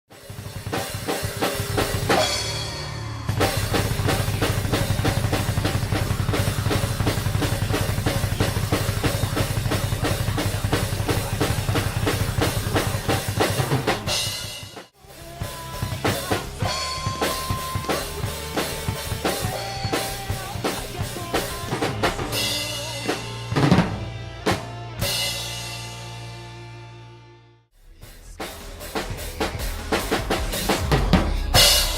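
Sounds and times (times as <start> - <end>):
drum kit playing: 0.1 - 26.8, 27.8 - 31.9
recorded rock song: 0.1 - 31.9.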